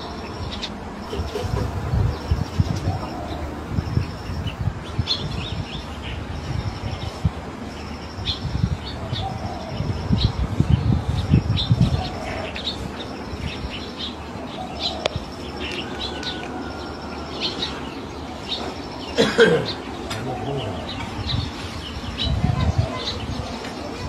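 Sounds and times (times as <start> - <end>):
wind buffeting microphone: 0.0 - 19.1, 19.7 - 24.0
small birds chirping: 0.0 - 24.0.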